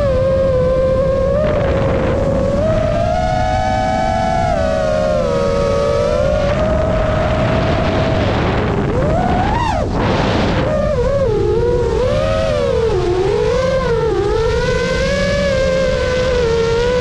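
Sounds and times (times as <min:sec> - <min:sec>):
drone motors whining: 0:00.0 - 0:17.0
wind rush: 0:00.0 - 0:17.0.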